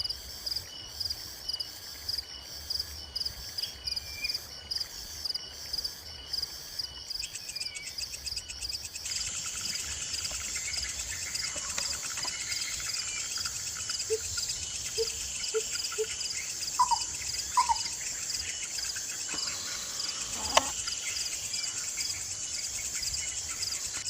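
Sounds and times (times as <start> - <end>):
dense insect buzz: 0.0 - 24.0
insects chirping rhythmically: 0.0 - 24.0.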